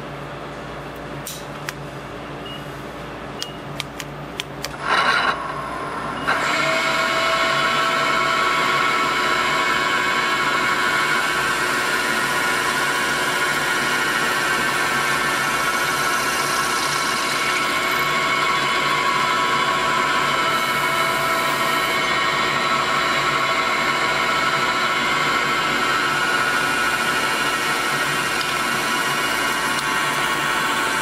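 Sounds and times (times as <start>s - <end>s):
mill spindle whine: 4.6s - 31.0s
drill boring metal: 4.8s - 31.0s.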